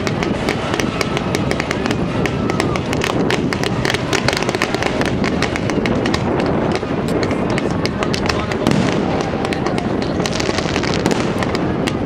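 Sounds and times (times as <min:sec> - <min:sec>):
firework cracks and pops: 0:00.0 - 0:12.0
rumble of firework launches: 0:00.0 - 0:12.0.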